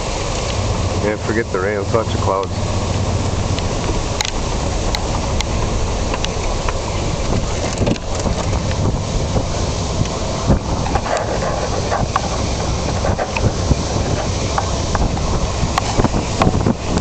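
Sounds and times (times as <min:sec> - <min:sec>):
car road rumble: 0:00.0 - 0:17.0
wind: 0:00.0 - 0:17.0.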